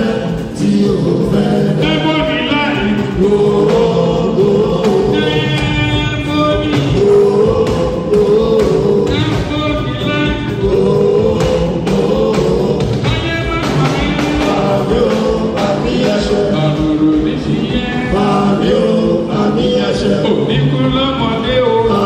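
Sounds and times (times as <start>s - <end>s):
band with percussion: 0.0s - 22.0s
voices singing in chorus: 0.0s - 22.0s.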